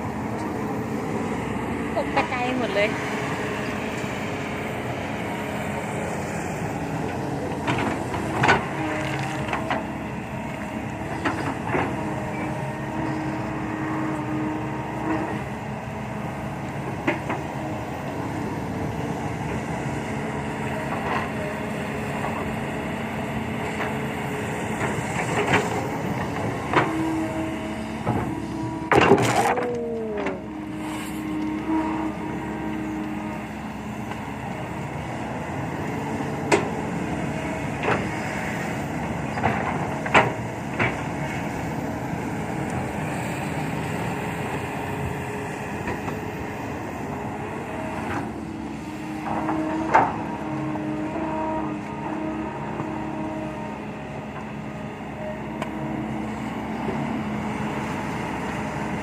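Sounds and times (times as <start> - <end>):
diesel truck engines running: 0.0 - 59.0.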